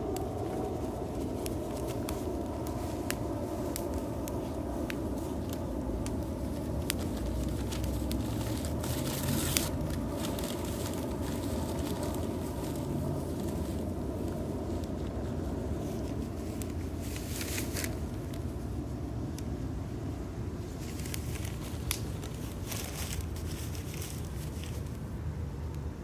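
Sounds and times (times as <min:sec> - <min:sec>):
low rumble: 0:00.0 - 0:23.4
wood fire crackling: 0:00.0 - 0:25.1.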